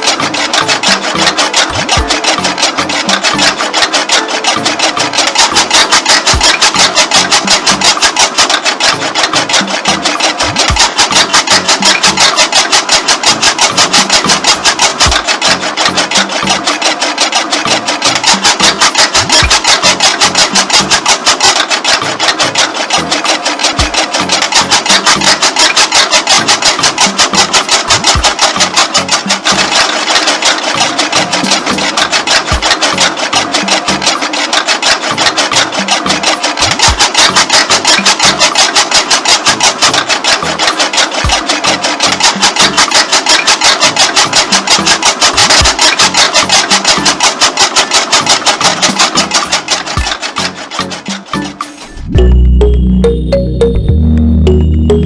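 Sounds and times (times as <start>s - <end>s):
small machine clattering: 0.0s - 52.1s.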